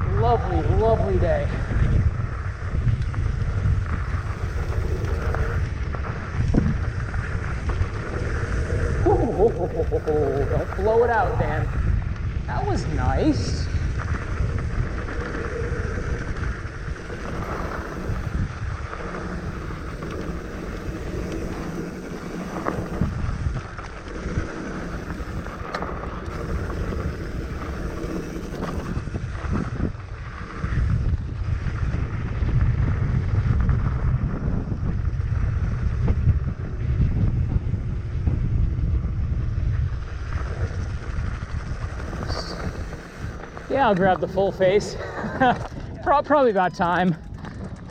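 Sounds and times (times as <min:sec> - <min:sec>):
bike tyres on dirt trail: 0:00.0 - 0:47.9
wind rushing over microphone: 0:00.0 - 0:47.9
bike clicks and rattles: 0:01.6 - 0:47.9.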